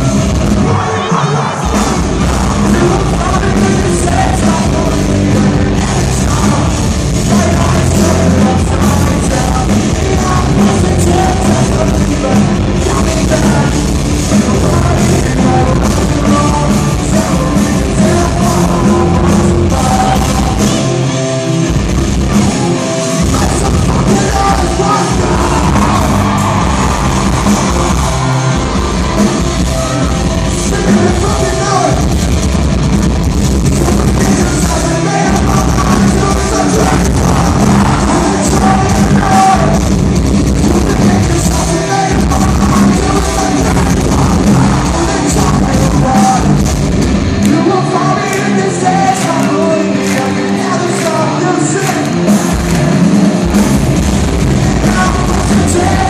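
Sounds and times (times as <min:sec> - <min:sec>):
live pop-punk band playing: 0:00.0 - 0:56.0.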